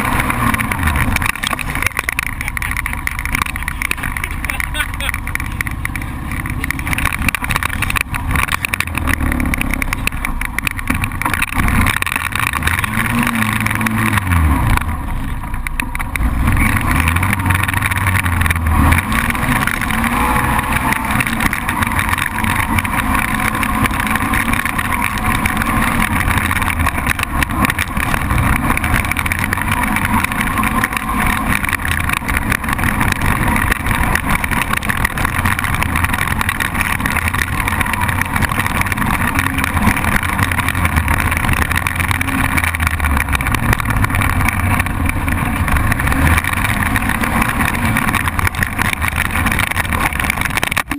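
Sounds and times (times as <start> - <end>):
atv engine running: 0.0 - 50.9
constant rushing noise: 0.0 - 50.9.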